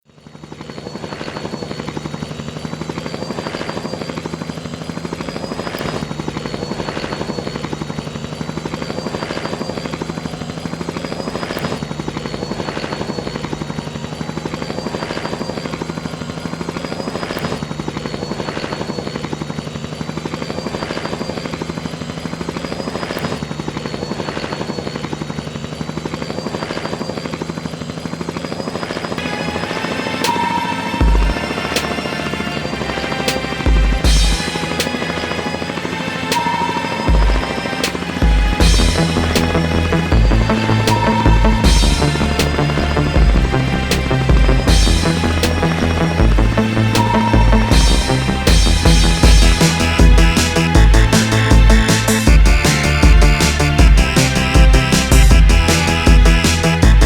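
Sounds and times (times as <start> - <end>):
helicopter engine hum and whine: 0.0 - 57.0
helicopter rotor chop: 0.0 - 57.0.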